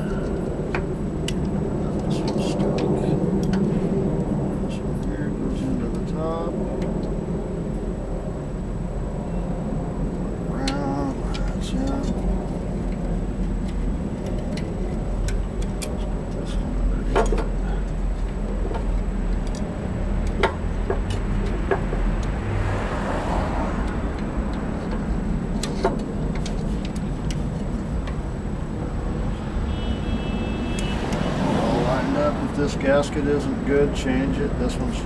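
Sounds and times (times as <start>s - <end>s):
steady low rumble: 0.0s - 29.7s.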